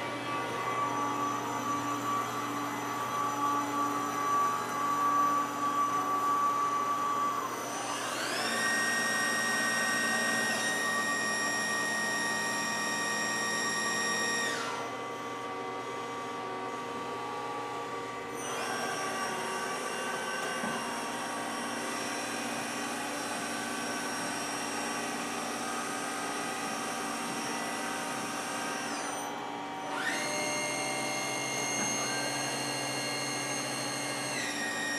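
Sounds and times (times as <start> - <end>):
lathe spindle whine: 0.0 - 34.9.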